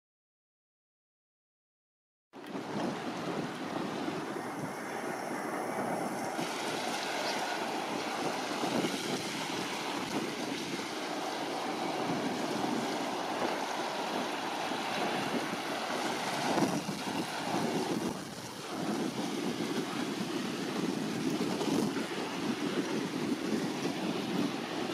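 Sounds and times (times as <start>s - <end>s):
waves washing on shore: 2.4s - 24.9s
wind on microphone: 2.4s - 24.9s.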